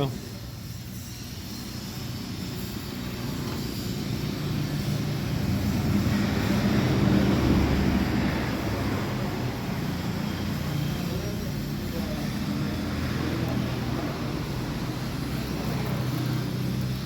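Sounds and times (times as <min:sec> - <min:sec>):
vehicle engine passing by: 0:03.2 - 0:17.0.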